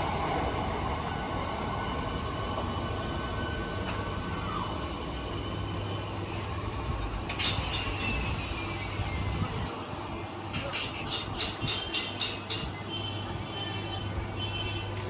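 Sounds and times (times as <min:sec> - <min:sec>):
train rumbling on tracks: 0:00.0 - 0:15.0.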